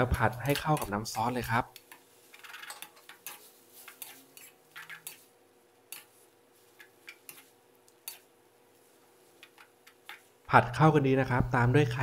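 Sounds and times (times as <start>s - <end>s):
metal spatula scraping a wok: 0.2s - 10.4s.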